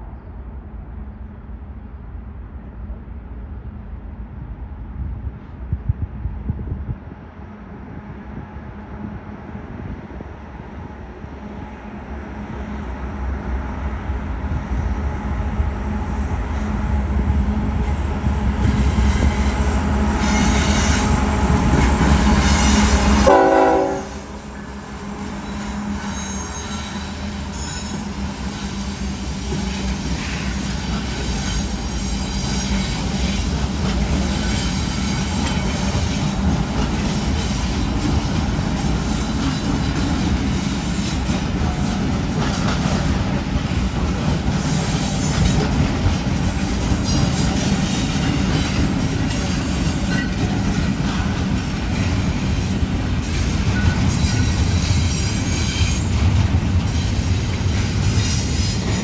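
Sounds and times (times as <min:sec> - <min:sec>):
diesel locomotives passing: 0:00.0 - 0:59.0
rail and wheel noise: 0:00.0 - 0:59.0.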